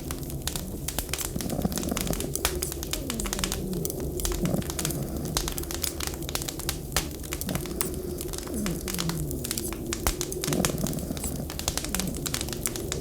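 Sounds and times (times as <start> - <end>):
wood fire crackling: 0.0 - 13.0
wind moaning: 0.1 - 13.0.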